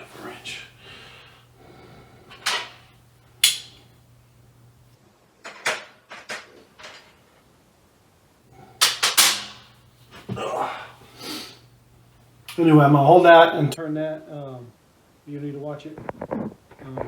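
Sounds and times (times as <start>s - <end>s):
low steady hum: 0.0s - 5.2s, 6.9s - 17.0s.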